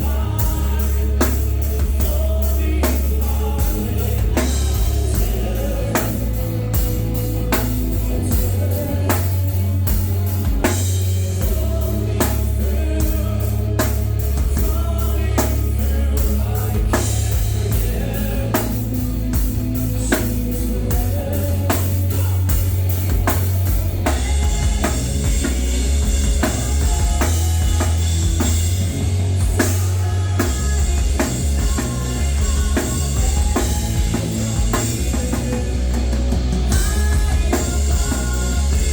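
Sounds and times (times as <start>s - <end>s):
drums hitting: 0.0s - 38.9s
rock band playing live: 0.0s - 38.9s.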